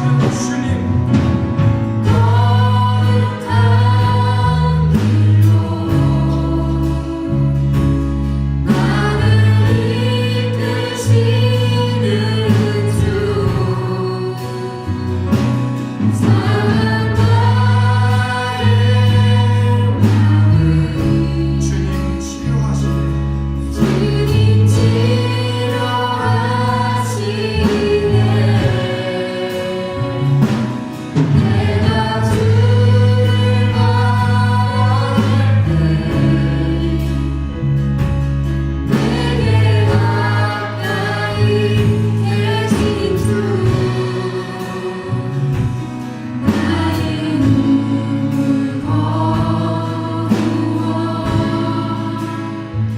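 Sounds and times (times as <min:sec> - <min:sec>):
people singing: 0:00.0 - 0:52.9
steady drum beat: 0:00.0 - 0:52.9
sustained bass notes: 0:00.0 - 0:52.9.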